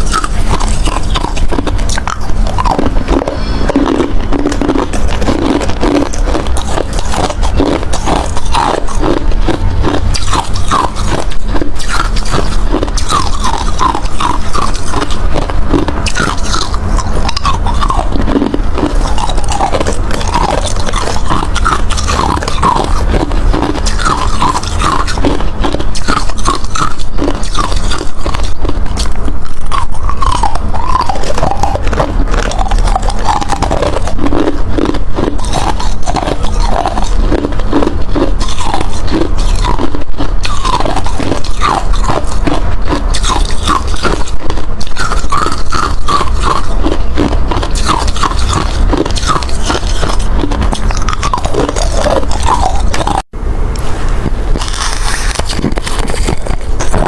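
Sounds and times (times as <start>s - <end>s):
ice being chewed: 0.0s - 53.9s, 54.5s - 57.0s.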